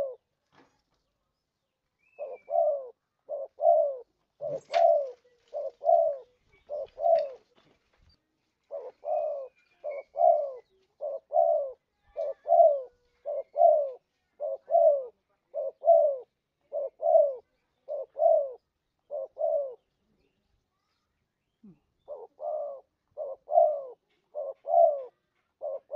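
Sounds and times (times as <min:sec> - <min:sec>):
dove cooing: 0:00.0 - 0:00.3, 0:02.0 - 0:07.6, 0:08.6 - 0:19.9, 0:21.6 - 0:25.9.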